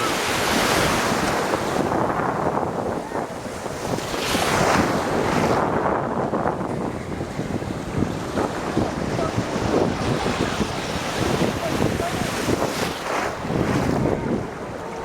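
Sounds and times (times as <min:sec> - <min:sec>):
sea water rushing and splashing: 0:00.0 - 0:15.0
wind buffeting microphone: 0:00.0 - 0:15.0.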